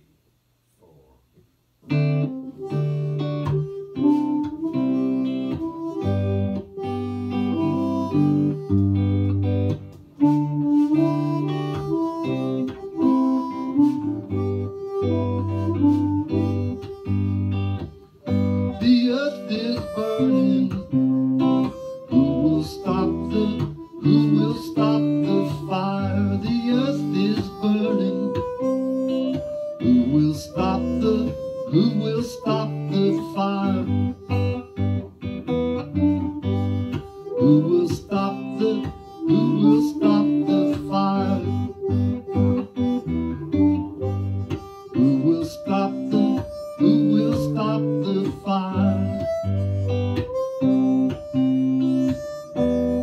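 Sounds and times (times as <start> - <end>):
guitar: 0.8 - 53.0
harmonica: 1.8 - 53.0.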